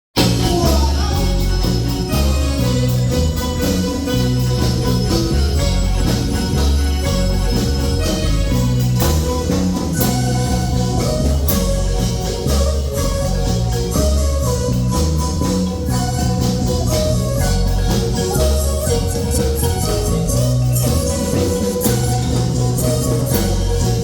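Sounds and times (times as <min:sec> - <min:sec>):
band music: 0:00.2 - 0:24.0
heavy bass line: 0:00.2 - 0:24.0.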